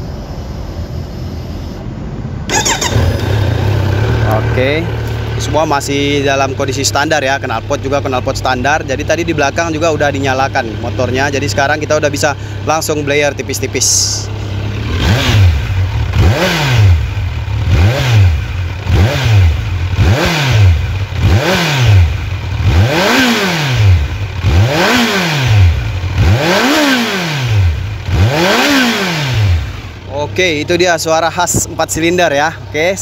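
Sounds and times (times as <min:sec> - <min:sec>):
motorcycle engine revving: 0:02.5 - 0:32.0.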